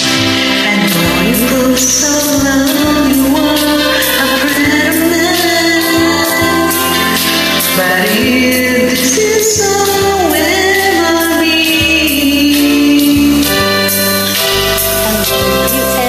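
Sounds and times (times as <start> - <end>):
karaoke backing track: 0.0 - 16.0
woman singing: 0.6 - 14.0, 15.0 - 16.0.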